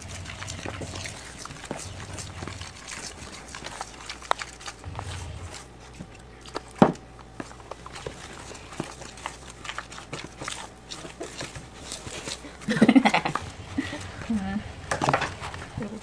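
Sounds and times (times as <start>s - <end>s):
dough mixed in a bowl: 0.0s - 16.0s.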